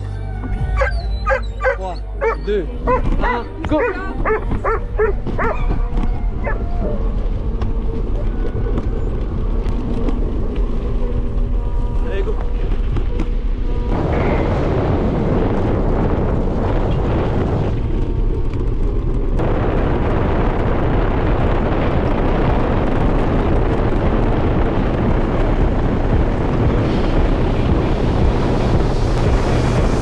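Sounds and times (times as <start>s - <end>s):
wind buffeting microphone: 0.6s - 30.0s.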